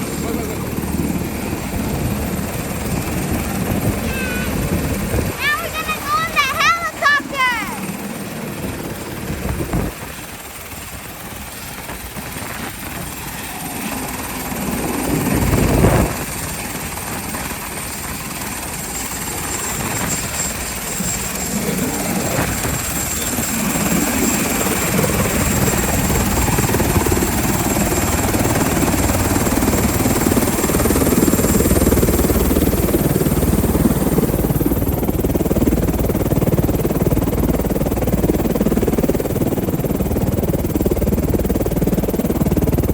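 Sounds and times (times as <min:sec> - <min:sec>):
helicopter rotor and engine: 0:00.0 - 0:42.9.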